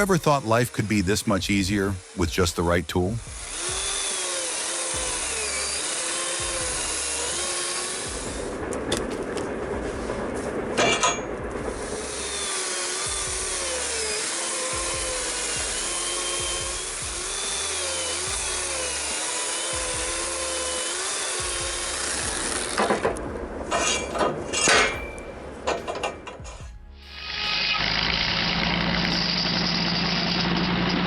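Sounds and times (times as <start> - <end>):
power saw cutting wood: 0.0 - 31.0.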